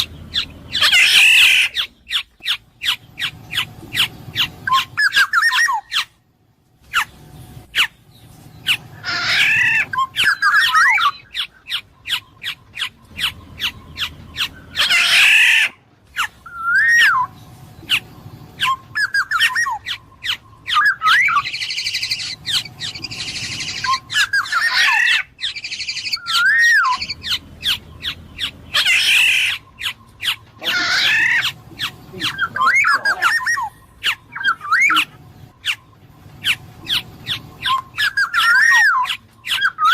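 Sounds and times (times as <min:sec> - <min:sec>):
loud harsh bird call: 0:00.0 - 0:06.2, 0:06.8 - 0:39.9
oriole fluting whistled calls: 0:00.0 - 0:06.2, 0:06.9 - 0:39.9.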